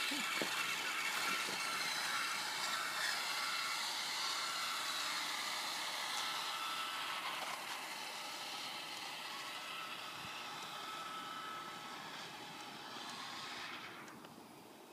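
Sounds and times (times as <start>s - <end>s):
toy truck electric motor whining: 0.0s - 14.4s.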